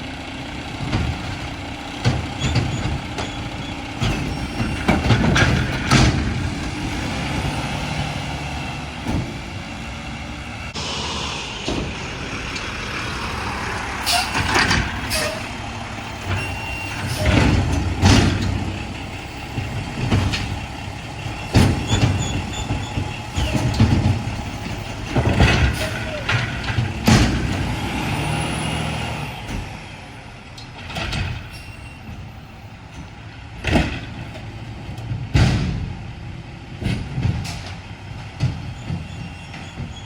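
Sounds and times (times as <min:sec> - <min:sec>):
garbage truck engine rumbling: 0:00.0 - 0:40.0.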